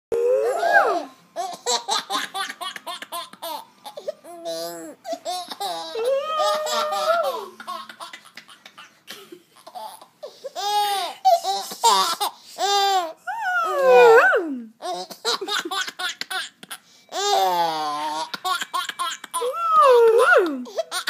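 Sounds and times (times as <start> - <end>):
baby laughing and squealing: 0.4 - 9.0, 9.6 - 21.0.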